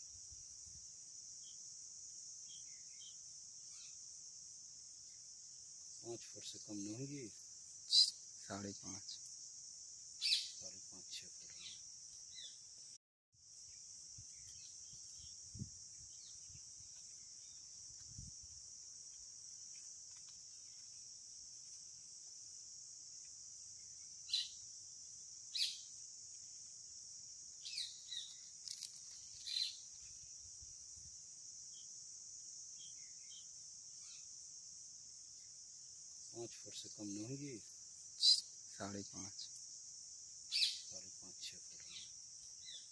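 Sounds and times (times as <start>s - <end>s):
crickets chirring: 0.0s - 42.9s.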